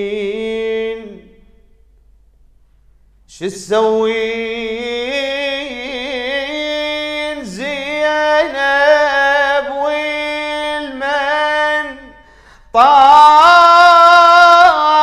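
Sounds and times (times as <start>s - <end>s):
man singing a lament: 0.0s - 1.4s, 3.3s - 15.0s.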